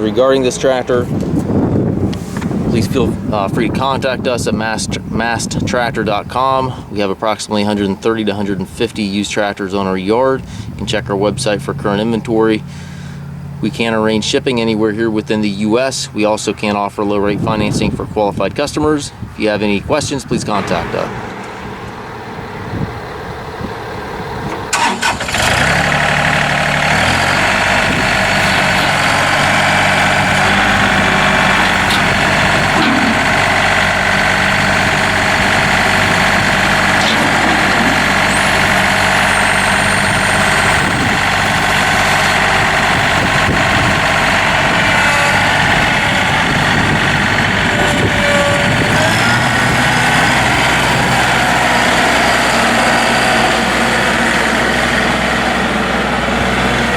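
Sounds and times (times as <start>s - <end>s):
diesel engine starting and running: 0.0s - 56.9s.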